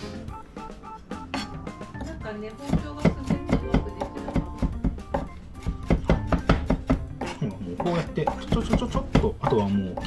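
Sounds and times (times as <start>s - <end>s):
background music: 0.0s - 10.0s
knife strikes on cutting board: 1.3s - 10.0s.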